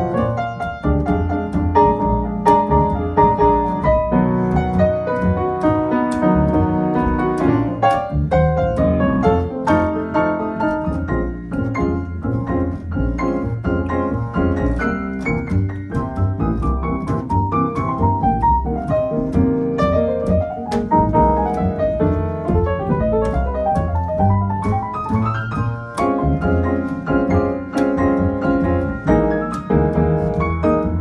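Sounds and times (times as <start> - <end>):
piano solo: 0.0 - 31.0.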